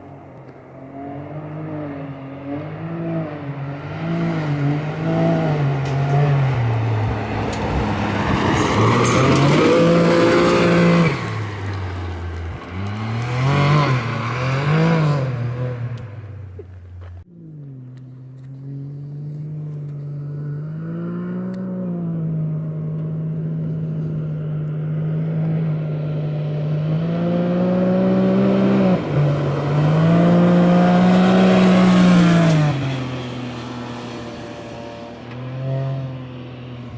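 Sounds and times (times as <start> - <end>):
engine revving up and down: 0.8 - 11.7, 12.5 - 16.6, 17.4 - 36.9.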